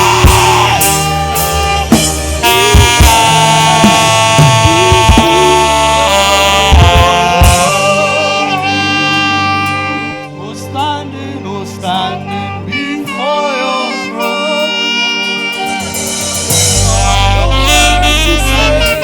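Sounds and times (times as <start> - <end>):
live gospel worship music: 0.0 - 19.0.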